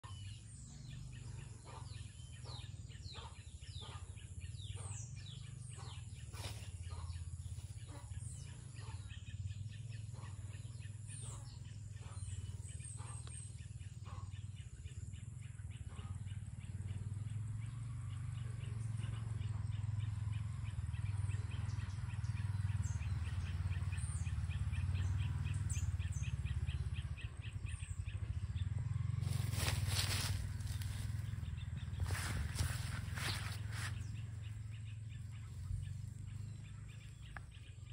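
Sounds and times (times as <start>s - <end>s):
birds chirping: 0.0s - 37.9s
low steady rumble: 0.0s - 37.9s.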